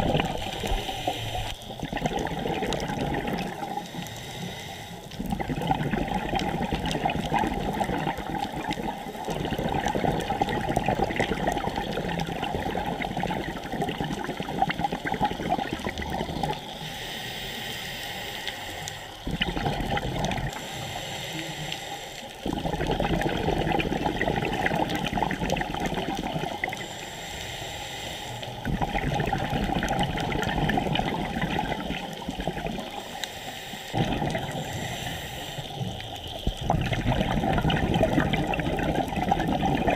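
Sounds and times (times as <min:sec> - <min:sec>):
scuba exhaust bubbles: 0:00.0 - 0:39.9.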